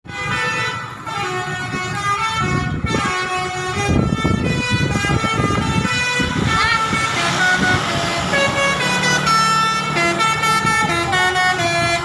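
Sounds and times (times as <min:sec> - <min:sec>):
engine rumbling: 0:00.0 - 0:12.0
bus musical horn playing tune: 0:00.1 - 0:12.0.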